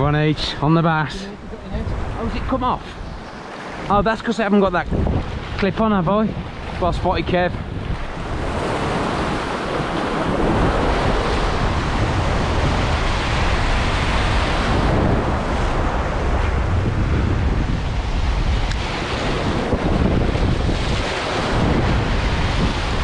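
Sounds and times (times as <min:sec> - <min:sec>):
wind buffeting microphone: 0:00.0 - 0:23.0
sea waves breaking on rocks: 0:00.8 - 0:23.0.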